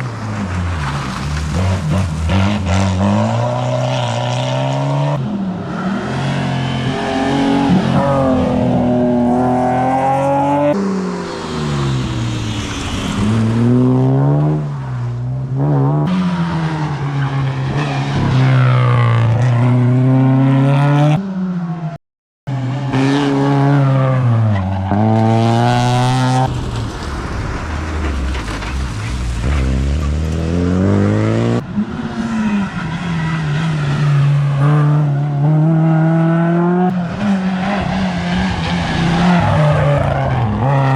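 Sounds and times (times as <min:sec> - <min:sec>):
rally car engines revving: 0:00.0 - 0:21.8, 0:22.5 - 0:40.9.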